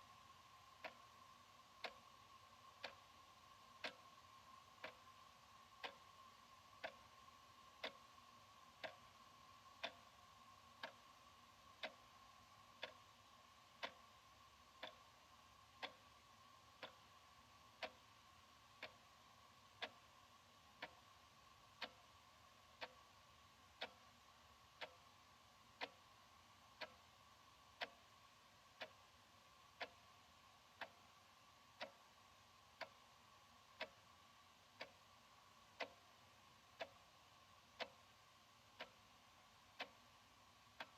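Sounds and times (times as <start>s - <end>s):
wall clock ticking: 0.0s - 40.9s.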